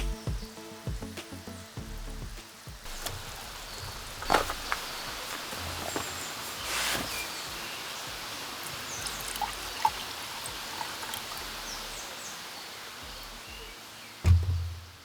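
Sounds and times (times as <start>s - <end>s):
small birds chirping: 0.0s - 15.0s
rushing water: 0.3s - 15.0s.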